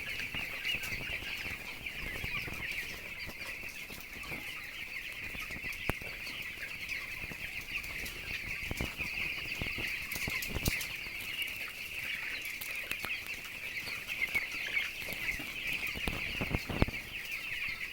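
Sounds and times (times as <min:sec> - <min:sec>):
chicks peeping: 0:00.0 - 0:17.9.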